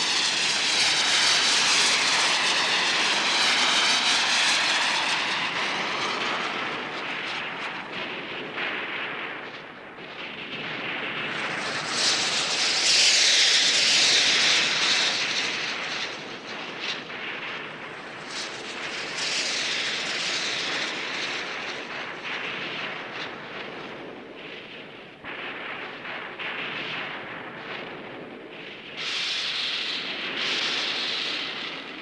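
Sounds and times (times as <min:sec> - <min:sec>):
aircraft engine rushing overhead: 0:00.0 - 0:32.0.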